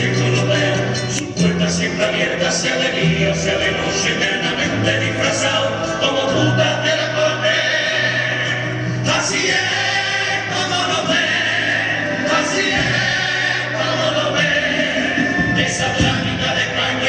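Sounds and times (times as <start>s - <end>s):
male choir singing in harmony: 0.0s - 17.0s.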